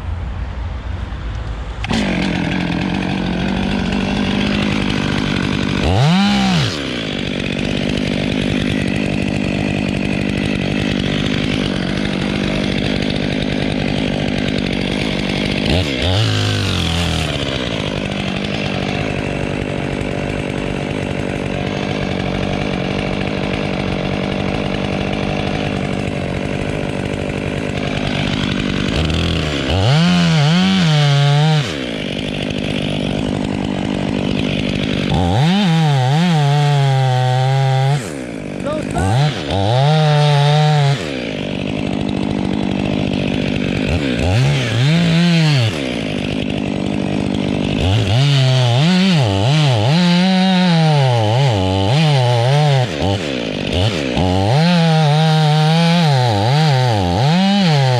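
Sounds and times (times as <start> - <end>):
chainsaw idling and revving: 1.8 - 57.9.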